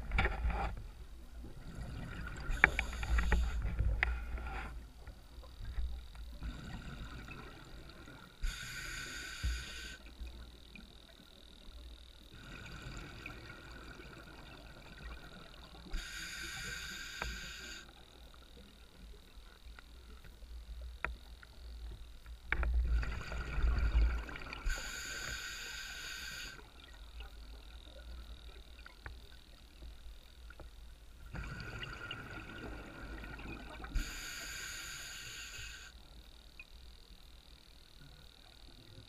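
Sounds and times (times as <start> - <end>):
regulator hiss: 1.8 - 4.8, 5.4 - 13.7, 15.7 - 18.8, 19.4 - 39.0.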